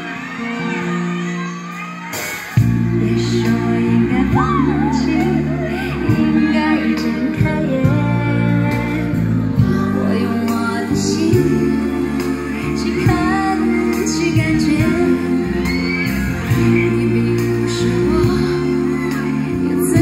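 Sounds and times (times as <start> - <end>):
pop song through speakers: 0.0 - 20.0.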